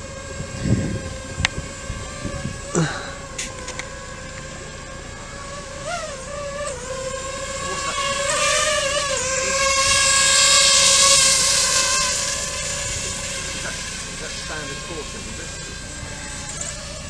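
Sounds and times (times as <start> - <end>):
rushing hiss: 0.0 - 5.8, 7.5 - 17.0
boat engine droning: 0.0 - 17.0.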